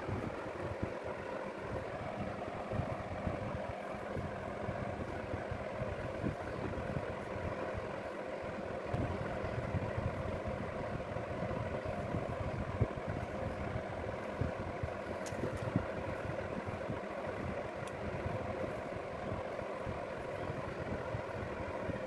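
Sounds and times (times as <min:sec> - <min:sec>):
machine hum and low rumble: 0:00.0 - 0:22.0.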